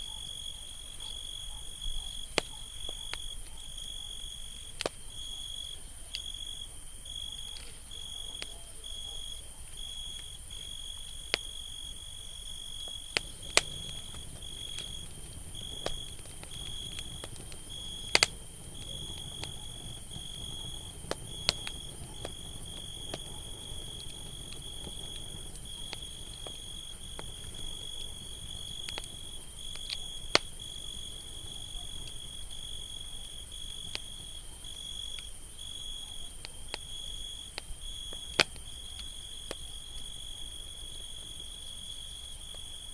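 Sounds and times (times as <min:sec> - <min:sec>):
campfire crackling: 0:00.0 - 0:42.9
crickets chirping: 0:00.0 - 0:42.9.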